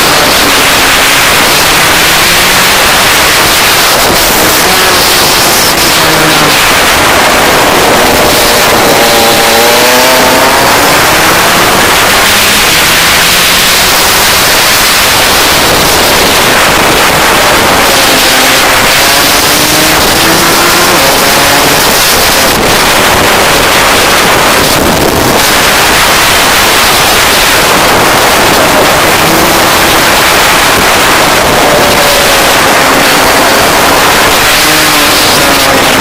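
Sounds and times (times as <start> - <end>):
kart engine running: 0.0 - 36.0
wind noise on microphone: 0.0 - 36.0.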